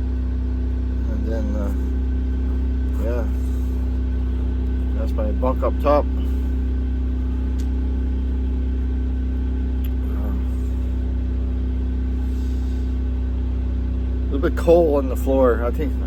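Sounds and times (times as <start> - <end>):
generator engine hum: 0.0 - 16.0.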